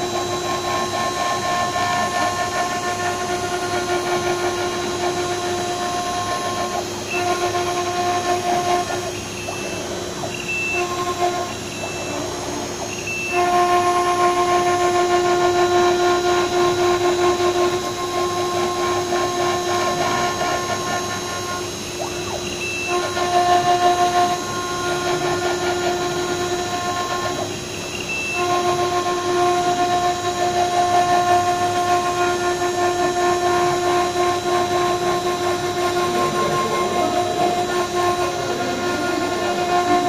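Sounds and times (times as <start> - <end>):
milling machine cutting brick: 0.0 - 40.0.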